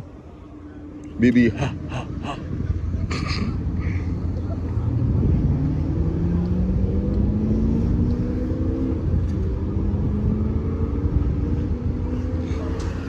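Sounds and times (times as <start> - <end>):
car engine accelerating: 1.8 - 13.0.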